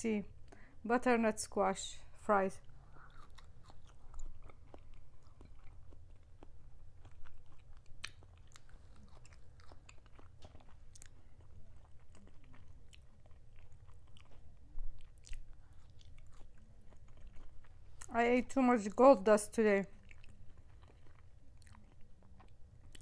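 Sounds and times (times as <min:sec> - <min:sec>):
chewing and biting food: 0:02.6 - 0:18.2, 0:19.9 - 0:23.0.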